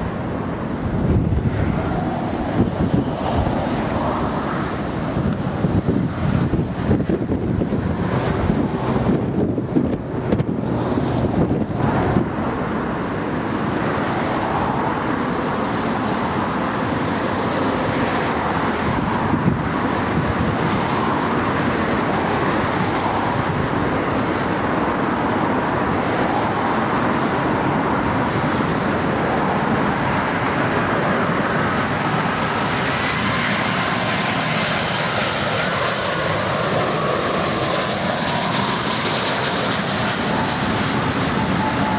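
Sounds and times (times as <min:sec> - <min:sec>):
high engine whine: 0:00.0 - 0:41.9
jet engines passing: 0:00.0 - 0:41.9
wind buffeting microphone: 0:00.0 - 0:41.9.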